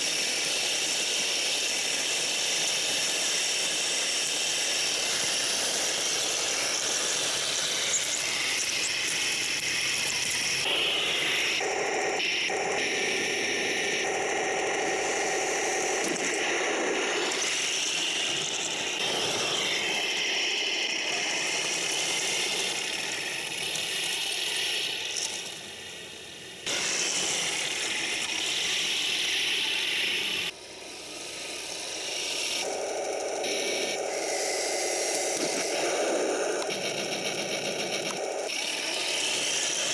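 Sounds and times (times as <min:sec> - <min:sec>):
gearbox whir: 0:00.0 - 0:39.9
metal tracks running: 0:00.0 - 0:39.9.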